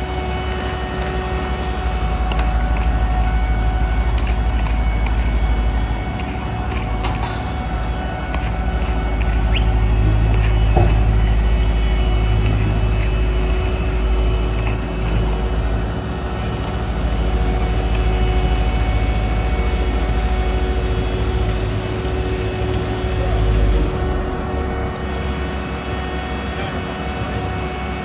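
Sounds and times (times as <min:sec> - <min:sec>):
diesel paving machinery rumbling: 0:00.0 - 0:28.0.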